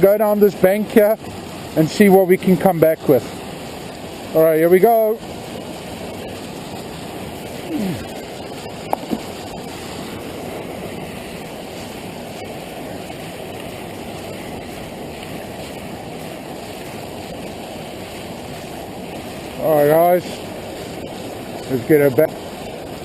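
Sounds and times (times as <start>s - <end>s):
flowing river water: 0.0s - 23.0s.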